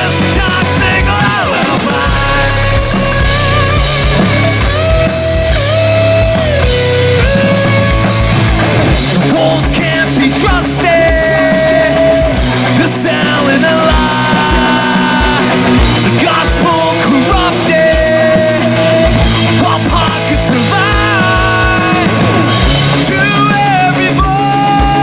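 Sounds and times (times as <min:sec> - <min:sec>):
bending lead guitar melody: 0:00.0 - 0:25.0
live rock band playing: 0:00.0 - 0:25.0.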